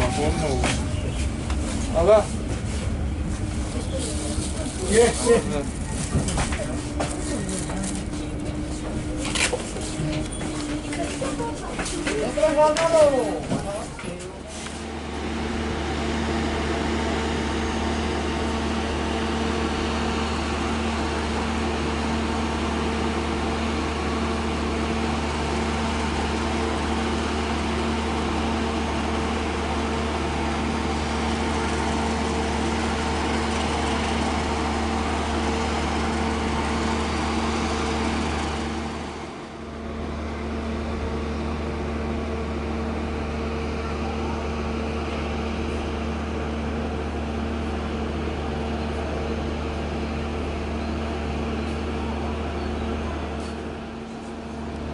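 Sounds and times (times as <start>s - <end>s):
train interior hum and rushing: 0.0s - 54.9s.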